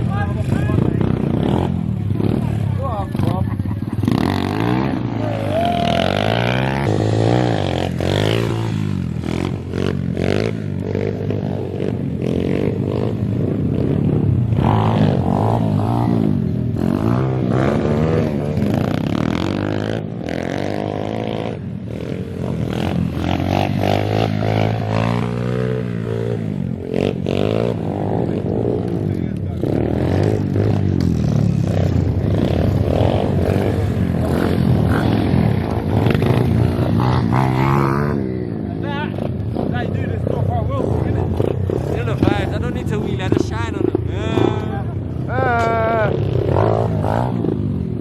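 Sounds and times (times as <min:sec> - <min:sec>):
pit bike engines revving: 0:00.0 - 0:48.0.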